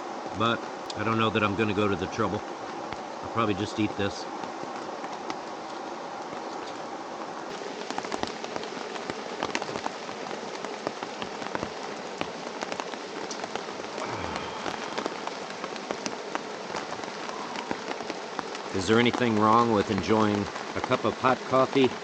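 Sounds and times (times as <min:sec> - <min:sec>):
raindrops tapping nearby: 0:00.0 - 0:22.0
steady rain hiss: 0:00.0 - 0:22.0.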